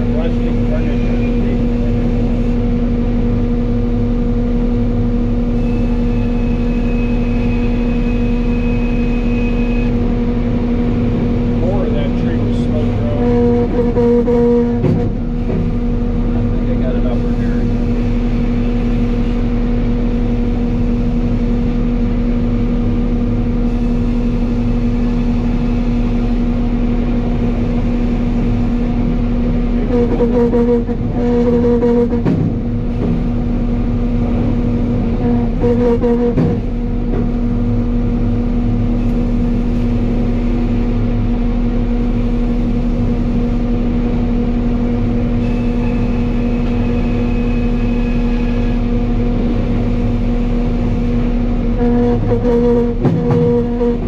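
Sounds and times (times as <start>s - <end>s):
sawmill machinery hum: 0.0s - 54.0s.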